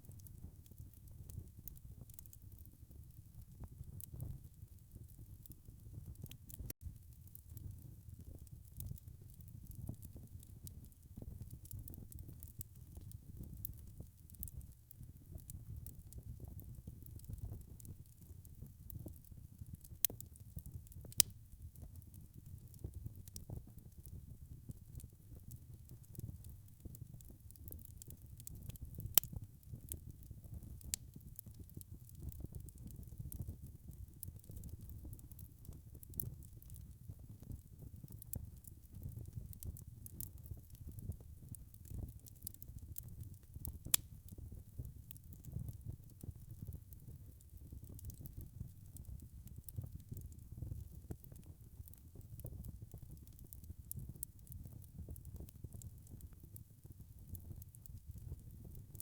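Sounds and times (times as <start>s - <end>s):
small fire crackles: 0.0s - 59.0s.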